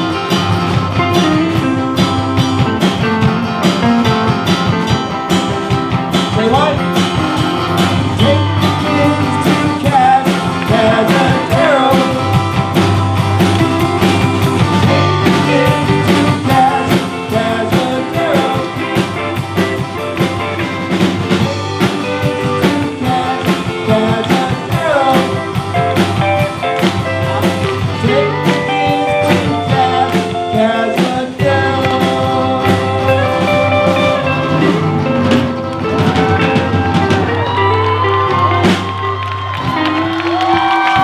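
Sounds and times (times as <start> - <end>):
person singing: 0.0 - 3.0, 7.8 - 20.2, 21.4 - 38.9
drum kit beat: 0.0 - 41.0
guitar: 0.0 - 41.0.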